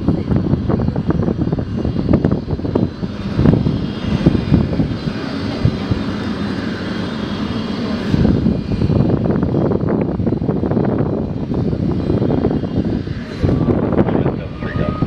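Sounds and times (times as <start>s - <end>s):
jet engines rumbling with whine: 0.0s - 15.0s.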